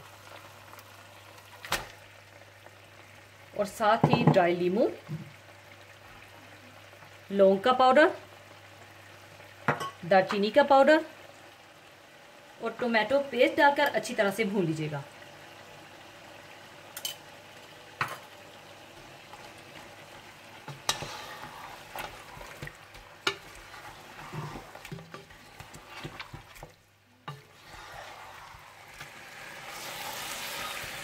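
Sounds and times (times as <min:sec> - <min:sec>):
meat sizzling in a pot: 0:00.0 - 0:31.0.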